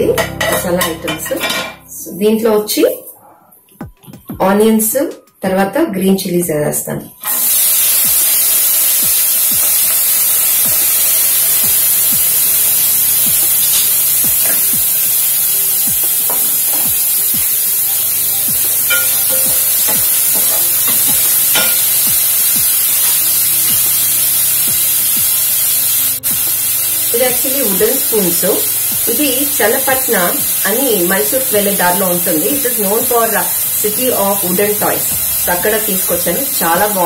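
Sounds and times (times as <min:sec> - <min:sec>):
onions sizzling in hot oil: 0:07.2 - 0:37.0.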